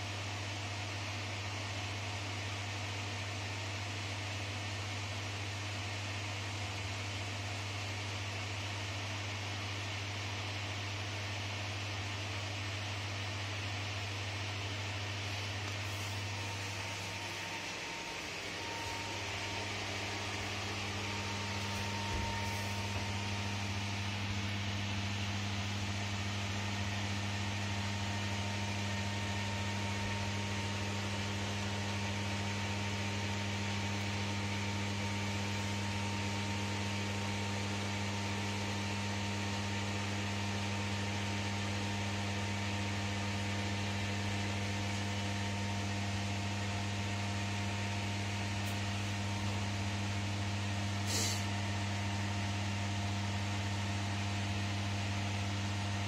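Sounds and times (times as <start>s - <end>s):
electrical hum with fan hiss: 0.0s - 56.0s.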